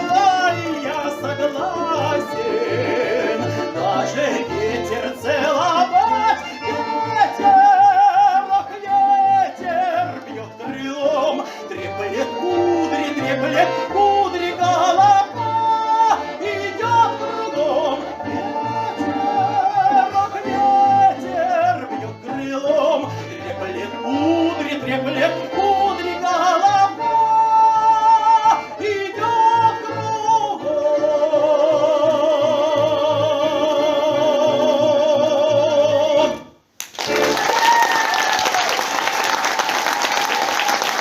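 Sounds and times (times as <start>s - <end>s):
folk ensemble singing and playing: 0.0s - 37.7s.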